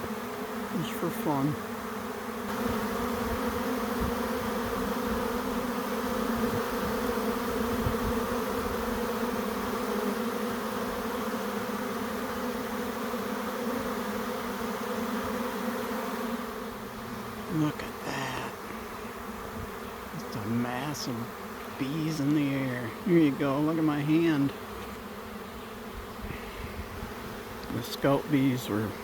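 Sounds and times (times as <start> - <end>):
bee swarm buzzing: 0.0 - 29.0.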